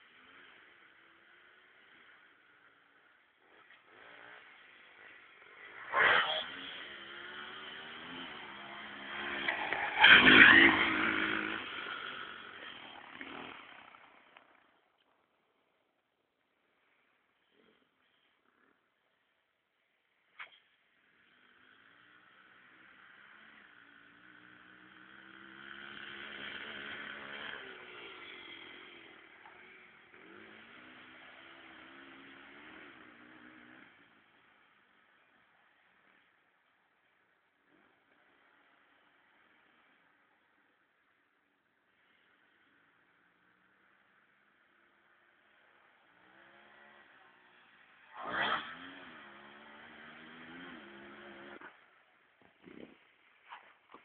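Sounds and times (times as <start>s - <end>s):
motocross bike engine revving: 0.0s - 14.7s, 21.0s - 40.7s, 42.0s - 53.3s.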